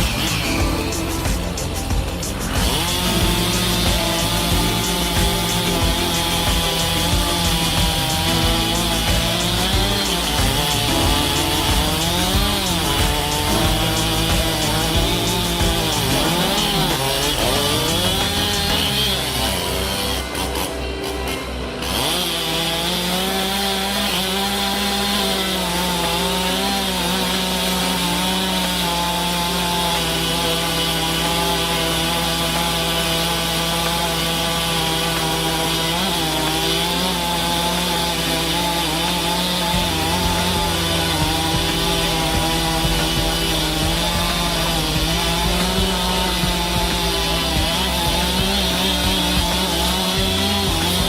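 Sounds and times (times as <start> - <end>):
chainsaw cutting wood: 0.0 - 51.0.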